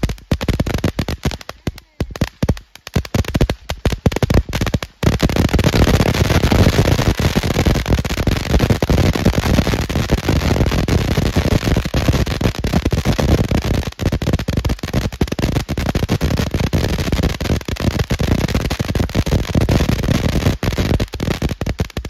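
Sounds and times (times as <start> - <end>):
firework crackling: 0.0 - 22.0.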